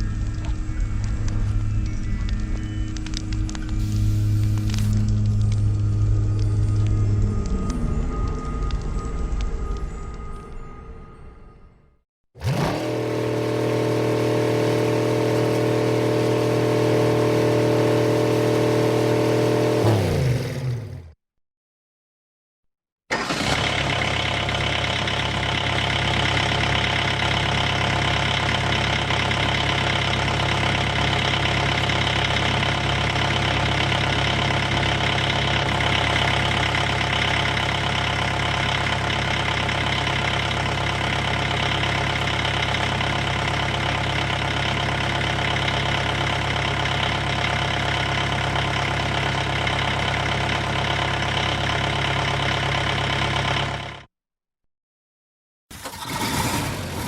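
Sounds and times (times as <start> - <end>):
car engine running steadily: 0.0 - 8.3, 12.4 - 21.1, 23.6 - 54.1.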